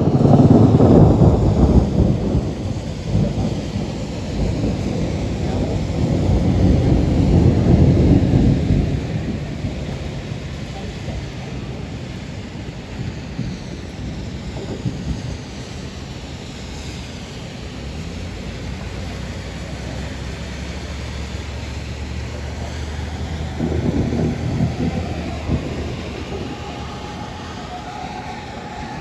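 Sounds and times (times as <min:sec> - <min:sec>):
steady rain: 0:00.0 - 0:29.0
thunder rumbling: 0:00.0 - 0:29.0
wind noise: 0:00.0 - 0:29.0.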